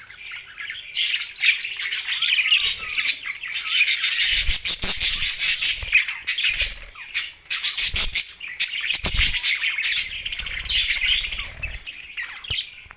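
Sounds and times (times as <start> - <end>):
budgerigars chirping and chattering: 0.0 - 12.9.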